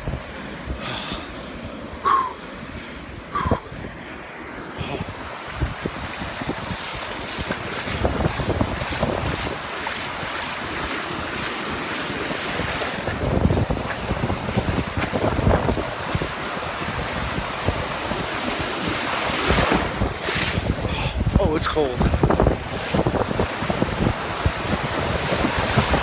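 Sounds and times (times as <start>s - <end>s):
ocean surf washing: 0.0s - 26.0s
wind buffeting microphone: 0.0s - 26.0s.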